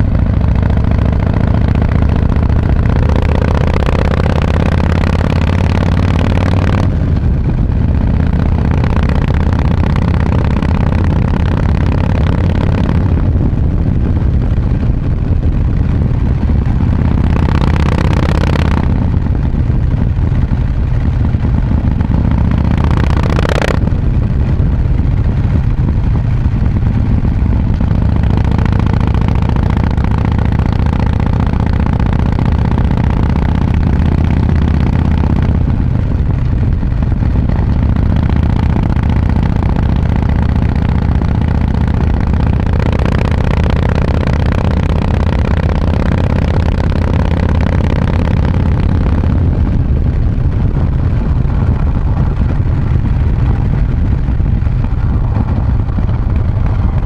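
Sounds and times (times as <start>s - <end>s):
motorcycle engine exhaust: 0.0s - 57.0s.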